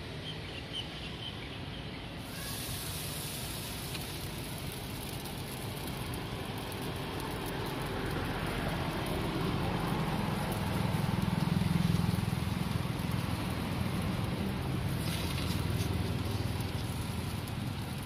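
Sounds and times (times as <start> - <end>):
bread frying on griddle: 2.2 - 18.0.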